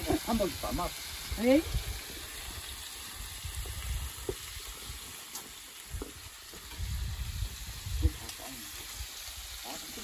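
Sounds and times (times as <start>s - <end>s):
meat sizzling on griddle: 0.0s - 10.0s.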